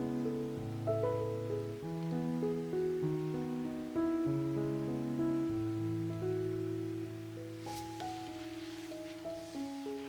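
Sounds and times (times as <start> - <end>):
instrumental music of held notes: 0.0 - 10.0.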